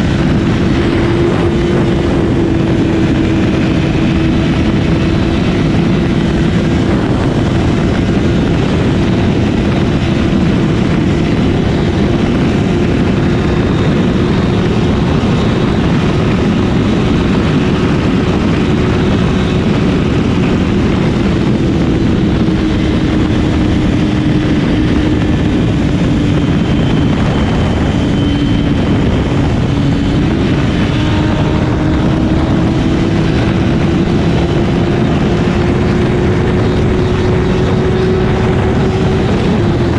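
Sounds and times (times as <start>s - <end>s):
heavy wind rush: 0.0s - 39.9s
motorcycle engine cruising: 0.0s - 39.9s.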